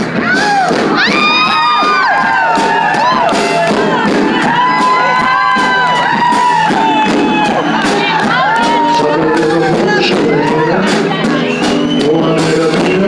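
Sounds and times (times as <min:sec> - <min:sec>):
audience cheering and screaming: 0:00.0 - 0:13.0
drum beat: 0:00.0 - 0:13.0
live band playing: 0:00.0 - 0:13.0.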